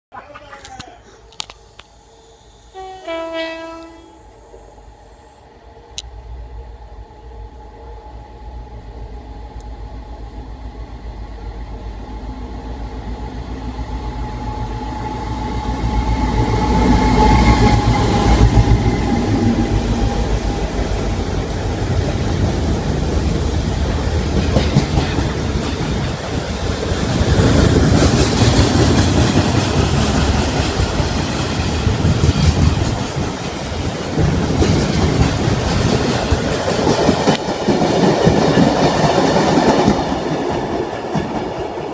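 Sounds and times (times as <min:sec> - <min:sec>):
diesel locomotive passing: 0:01.1 - 0:41.9
train wheels on rails: 0:02.7 - 0:41.9.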